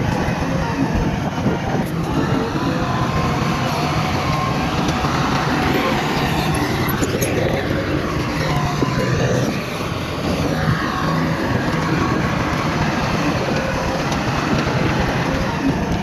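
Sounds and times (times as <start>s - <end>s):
heavy diesel machinery drone: 0.0s - 16.0s
faint squealing tones: 1.7s - 16.0s.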